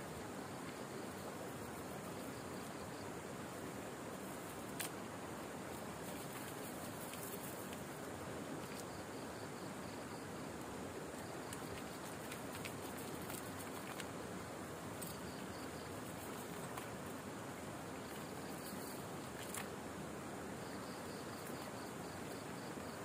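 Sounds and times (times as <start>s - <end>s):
cricket chirping: 0.0s - 23.0s
steady hiss: 0.0s - 23.0s.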